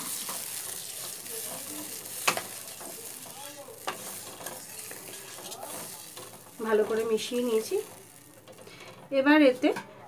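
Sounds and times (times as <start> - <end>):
liquid sizzling in a pan: 0.0 - 9.7.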